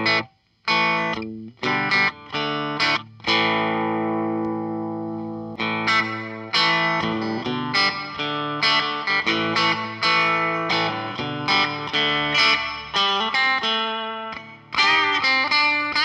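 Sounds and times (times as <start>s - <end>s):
electric guitar chords: 0.0s - 16.0s.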